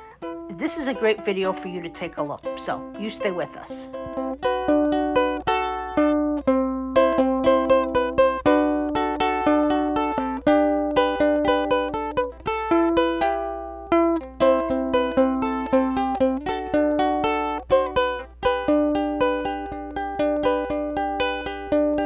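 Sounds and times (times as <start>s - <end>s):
upbeat plucked string tune: 0.0s - 22.0s.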